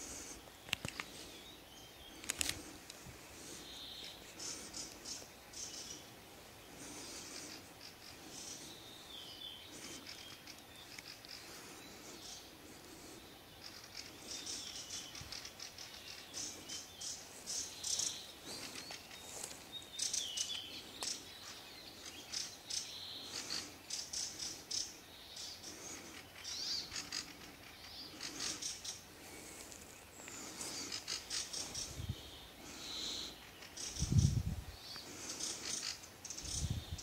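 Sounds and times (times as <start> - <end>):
songbirds chirping and trilling: 0.0 - 37.0.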